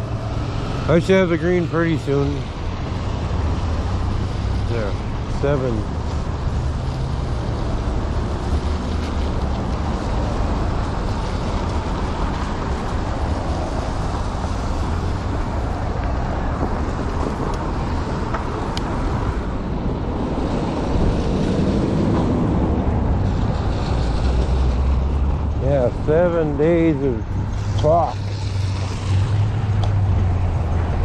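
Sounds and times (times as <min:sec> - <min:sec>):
passing cars: 0:00.0 - 0:31.0
wind rumble on microphone: 0:00.0 - 0:31.0.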